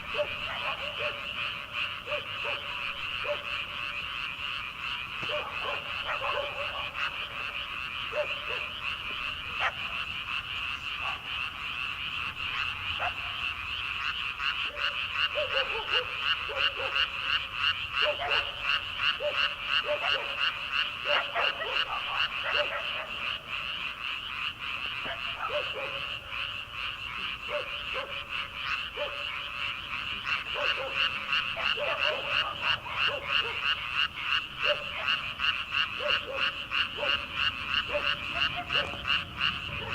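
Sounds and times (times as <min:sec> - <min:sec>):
frogs trilling chorus: 0:00.0 - 0:39.9
low frog croaks: 0:00.0 - 0:39.9.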